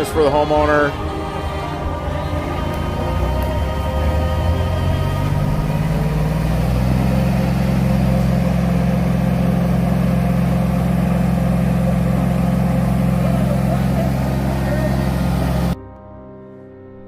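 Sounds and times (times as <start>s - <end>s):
engine running: 0.0s - 15.8s.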